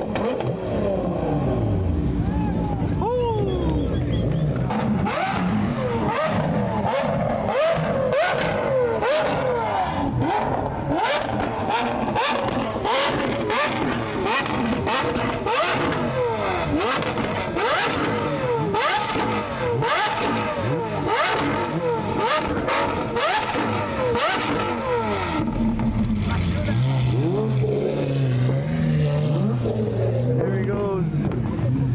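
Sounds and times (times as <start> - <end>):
car engines revving: 0.0 - 31.9.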